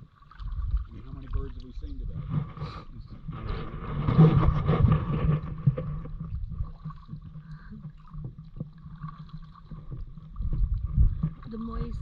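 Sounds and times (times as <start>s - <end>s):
water splashing around paddle: 0.0s - 12.0s
low microphone rumble: 0.5s - 12.0s.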